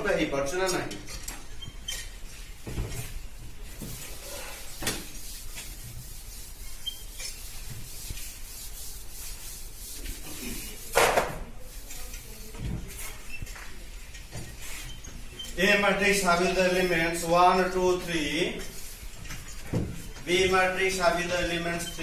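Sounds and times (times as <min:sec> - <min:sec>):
duster wiping chalkboard: 0:02.3 - 0:22.0.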